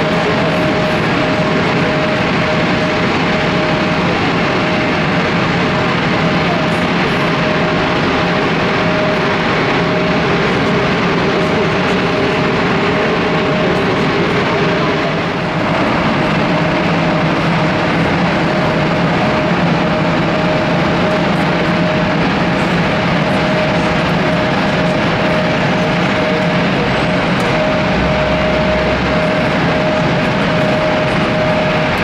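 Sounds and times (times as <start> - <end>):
jet engines running: 0.0 - 32.0
mid-pitched engine whine: 0.0 - 32.0.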